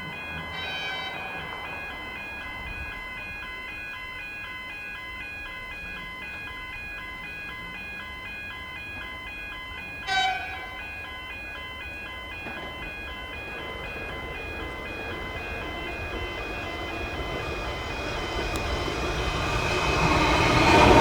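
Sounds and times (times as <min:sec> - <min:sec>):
level-crossing bells ringing: 0:00.0 - 0:21.0.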